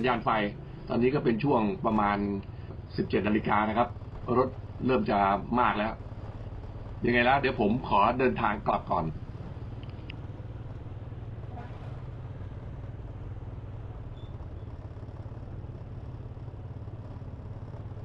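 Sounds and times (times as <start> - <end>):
car engines idling in traffic: 0.0 - 18.0.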